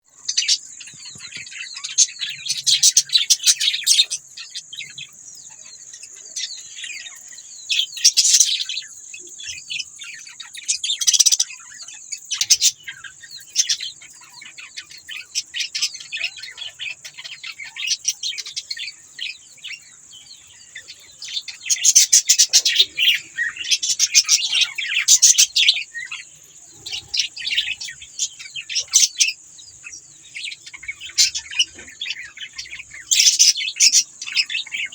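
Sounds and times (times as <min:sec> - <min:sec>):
budgerigars chirping and warbling: 0:00.1 - 0:34.9.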